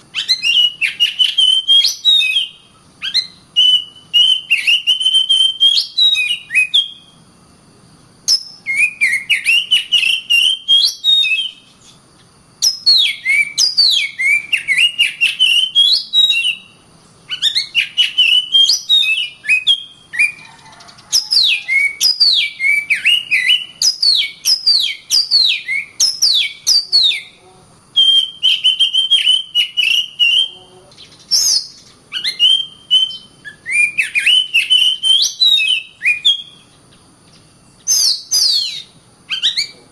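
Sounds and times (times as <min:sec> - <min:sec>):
songbird whistling and chattering: 0:00.0 - 0:07.2, 0:08.3 - 0:39.9.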